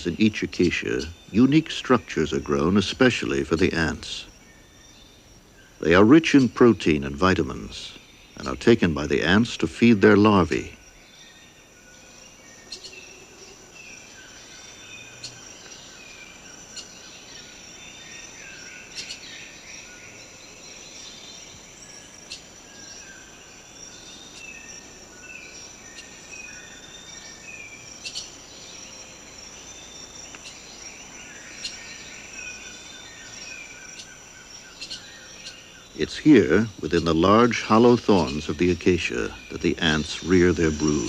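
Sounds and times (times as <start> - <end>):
birds calling and chirping: 0.0 - 41.0
high-pitched insect drone: 0.0 - 41.0.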